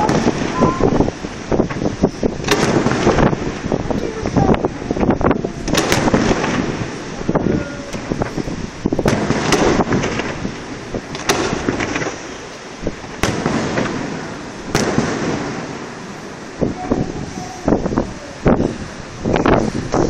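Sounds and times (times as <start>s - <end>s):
echoing rumble and crackle: 0.0s - 20.0s
fireworks bursting with bangs: 0.0s - 20.0s.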